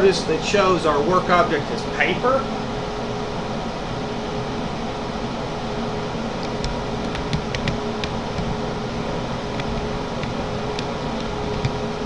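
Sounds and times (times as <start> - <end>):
fan hum and hiss: 0.0 - 12.0.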